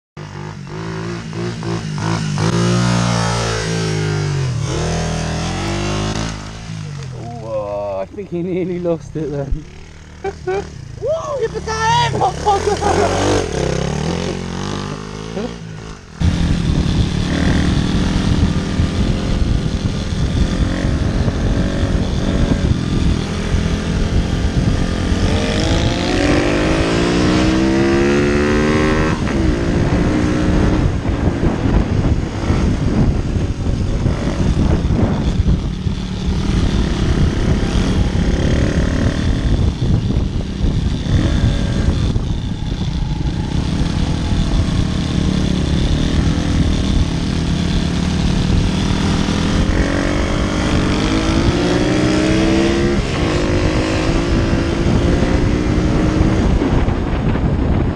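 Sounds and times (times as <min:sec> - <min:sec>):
motorbike engine revving: 0:00.2 - 0:57.9.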